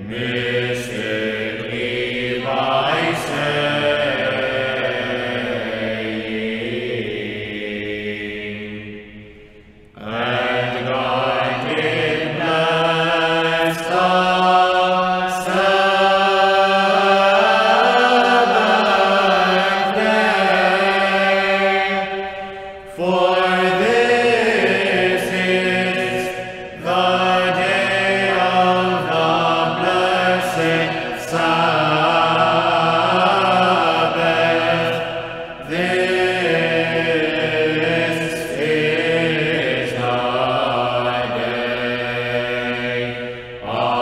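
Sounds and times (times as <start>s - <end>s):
choir chanting: 0.0s - 44.0s.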